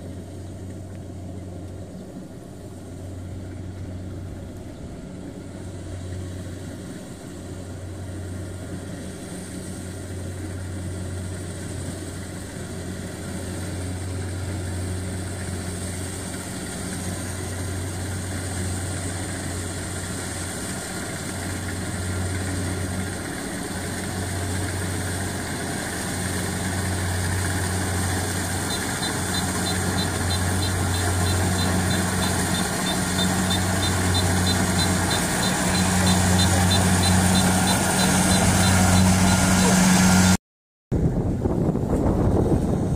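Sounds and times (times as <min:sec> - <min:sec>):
combine harvester diesel engine: 0:00.0 - 0:40.4.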